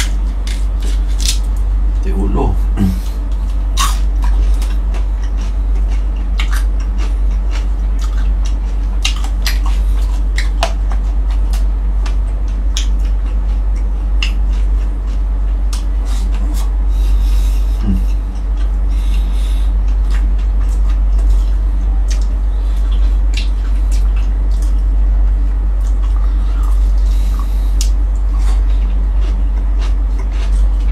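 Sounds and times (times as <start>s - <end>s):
chewing crispy food: 0.0s - 1.6s, 2.9s - 30.9s
loud steady low hum: 0.0s - 30.9s.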